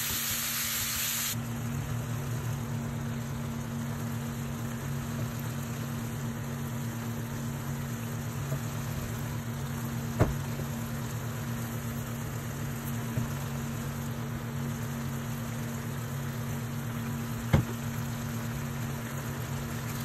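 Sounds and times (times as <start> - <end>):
sauce bubbling in a pan: 0.0 - 20.0.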